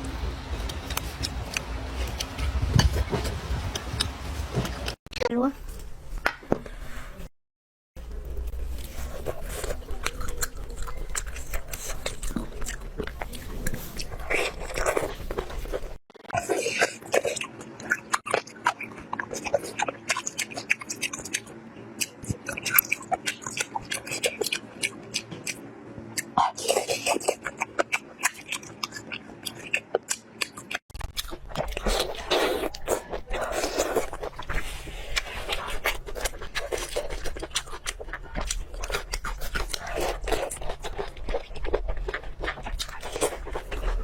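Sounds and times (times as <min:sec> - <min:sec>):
steady low hum: 0:00.0 - 0:07.3, 0:08.0 - 0:44.0
crunchy bites and chewing: 0:00.4 - 0:04.2, 0:08.2 - 0:44.0.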